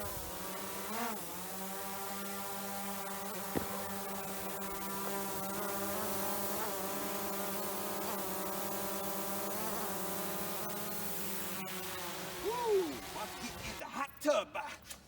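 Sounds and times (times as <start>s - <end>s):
drone propellers buzzing: 0.0s - 13.8s.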